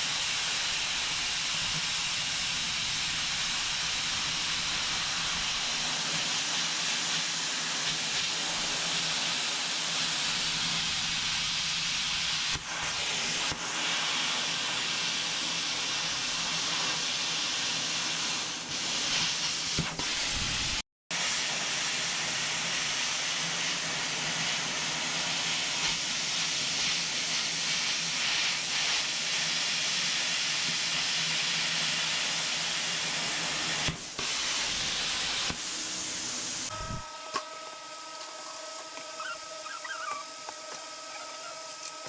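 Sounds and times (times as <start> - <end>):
loud steady hiss: 0.0 - 42.0.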